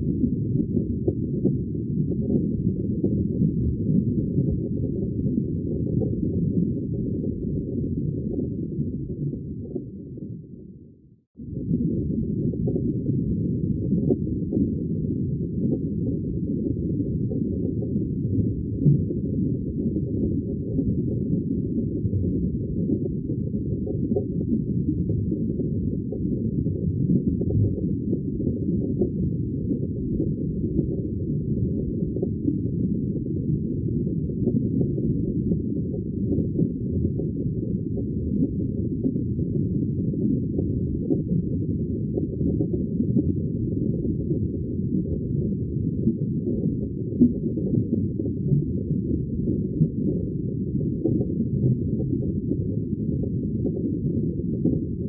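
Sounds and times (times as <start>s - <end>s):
underwater bubbling: 0.0s - 10.5s, 11.4s - 54.9s.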